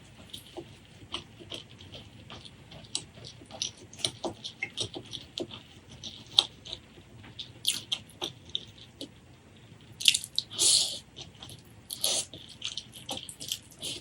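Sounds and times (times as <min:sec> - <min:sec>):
chewing clicks and smacks: 0:00.1 - 0:09.2, 0:09.8 - 0:14.0.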